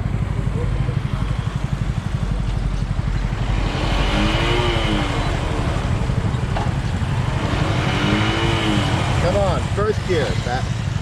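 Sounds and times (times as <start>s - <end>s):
motorcycle engine running: 0.0s - 11.0s
surrounding traffic: 0.0s - 11.0s.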